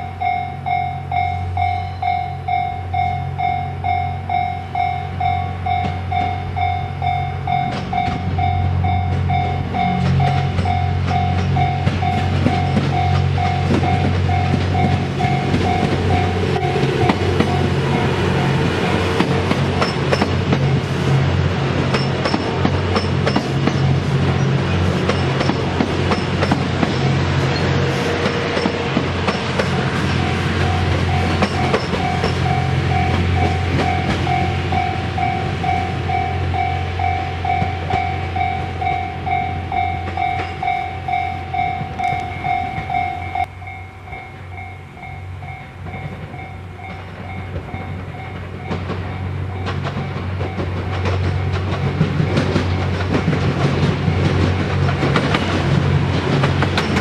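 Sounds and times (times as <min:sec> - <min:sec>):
level-crossing alarm ringing: 0:00.0 - 0:20.9, 0:28.4 - 0:53.3
diesel train drone and clatter: 0:00.0 - 0:57.0.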